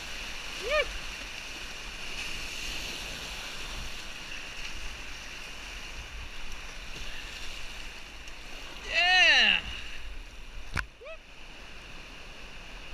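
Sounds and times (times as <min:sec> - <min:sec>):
whitewater rushing: 0:00.0 - 0:12.9.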